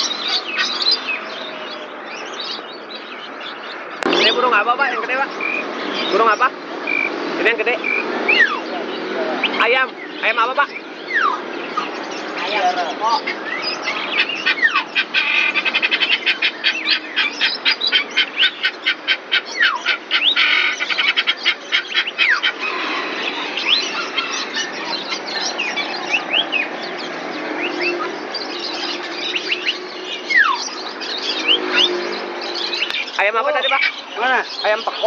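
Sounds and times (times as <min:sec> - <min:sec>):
birds sharp repeated notes: 0:00.0 - 0:35.0.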